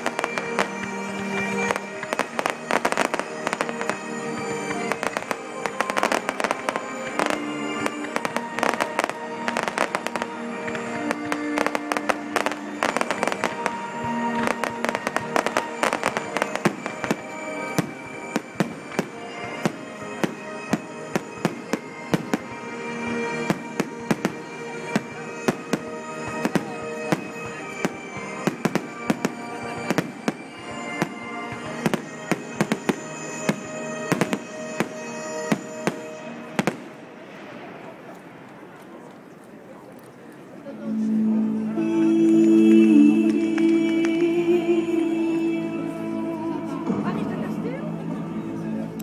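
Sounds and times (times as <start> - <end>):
music playing: 0.0 - 37.7, 40.5 - 49.0
fireworks bangs and crackles: 0.0 - 40.4.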